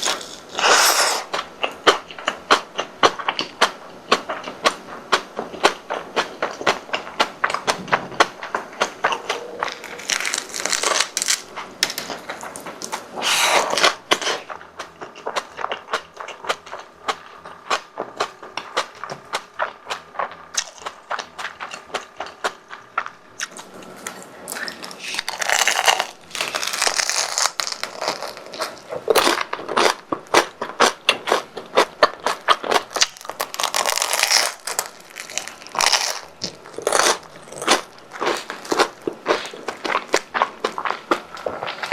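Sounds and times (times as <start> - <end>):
crunchy bites and chewing: 0.0 - 41.9.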